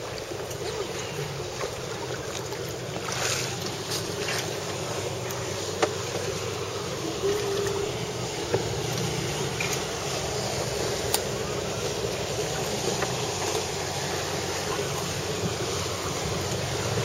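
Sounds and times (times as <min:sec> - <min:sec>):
outboard motors running: 0:00.0 - 0:17.0
water rushing past hull: 0:00.0 - 0:17.0.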